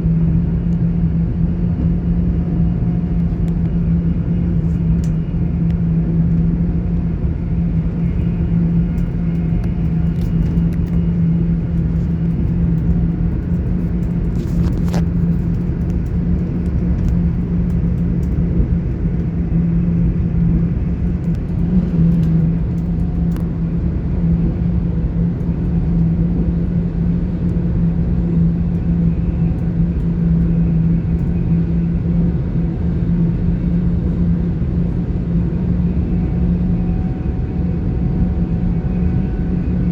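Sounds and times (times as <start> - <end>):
constant low hum: 0.0 - 39.9.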